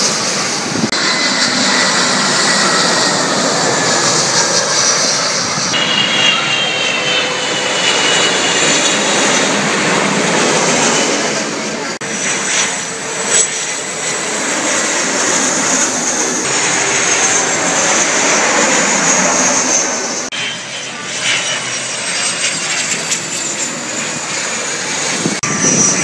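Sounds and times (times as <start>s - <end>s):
jet engines roaring with whine: 0.0s - 26.0s.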